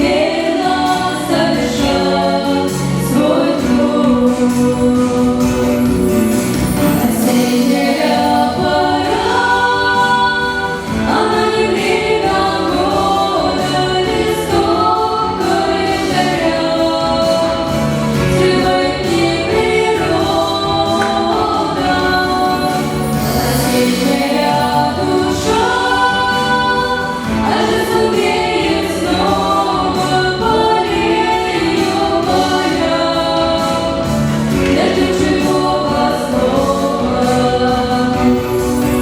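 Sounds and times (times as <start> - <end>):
family singing together: 0.0 - 39.0.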